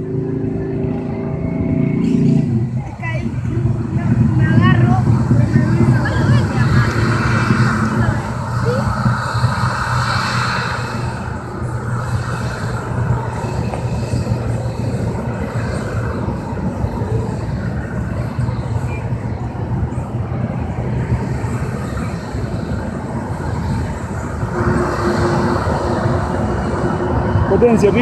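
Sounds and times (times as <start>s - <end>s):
airplane engines low rumble: 0.0s - 28.0s.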